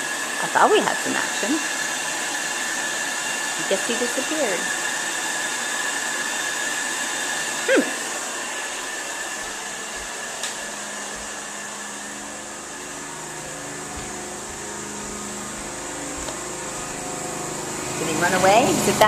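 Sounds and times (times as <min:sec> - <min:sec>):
carpet cleaning machine suction whine: 0:00.0 - 0:19.0.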